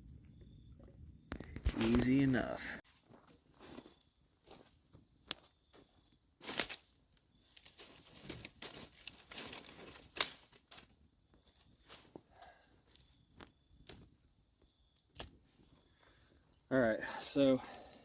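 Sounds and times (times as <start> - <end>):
rustling and handling noises: 1.3 - 16.7.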